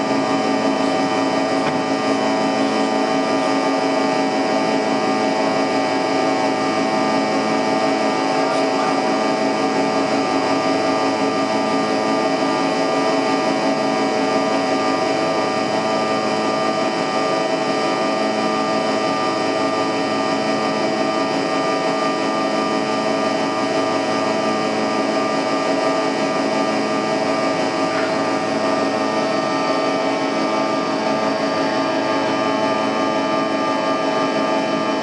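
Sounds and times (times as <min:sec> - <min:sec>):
jet engine hum in cabin: 0:00.0 - 0:35.0
steady whining tones: 0:00.0 - 0:35.0.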